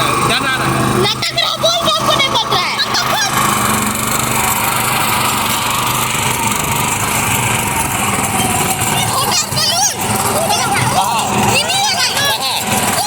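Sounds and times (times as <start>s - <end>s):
small tractor engine running: 0.0s - 13.0s.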